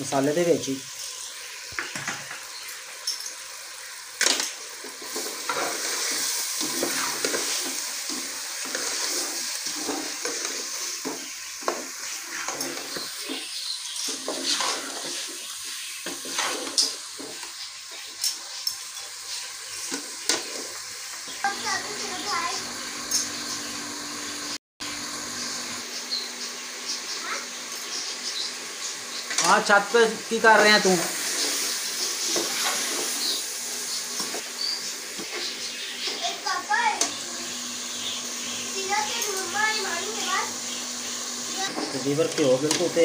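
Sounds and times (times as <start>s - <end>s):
chicken sizzling in pot: 0.0s - 43.0s.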